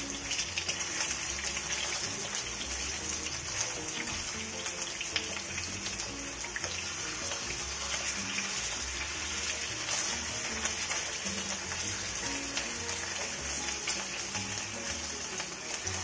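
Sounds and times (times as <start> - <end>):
background music: 0.0 - 16.0
meat sizzling in a pan: 0.0 - 16.0.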